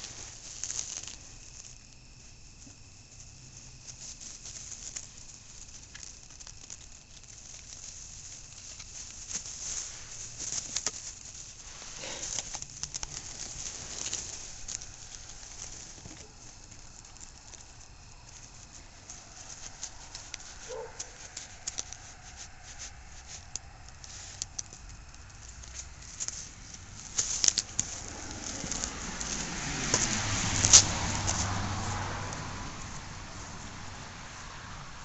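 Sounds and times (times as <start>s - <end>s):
pig rooting in mulch: 0.0s - 35.0s.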